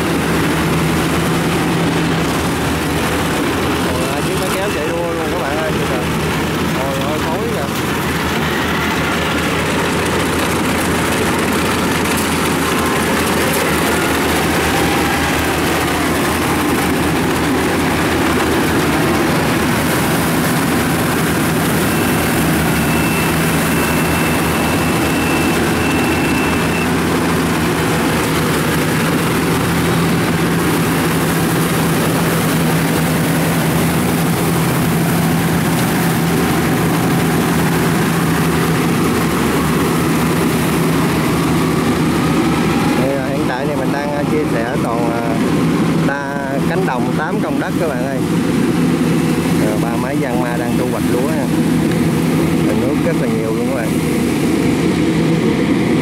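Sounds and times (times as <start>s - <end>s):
combine harvester cutting: 0.0s - 56.0s
tractor diesel engine: 0.0s - 56.0s.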